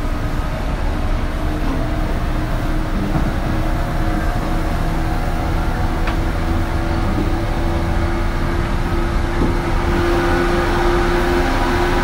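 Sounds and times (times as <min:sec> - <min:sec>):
electric train rumble and hum: 0:00.0 - 0:12.0.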